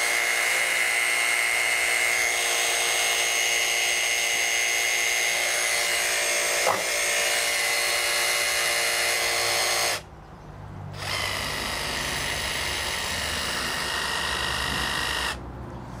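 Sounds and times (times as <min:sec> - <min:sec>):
jigsaw motor whine: 0:00.0 - 0:10.0, 0:11.0 - 0:15.4.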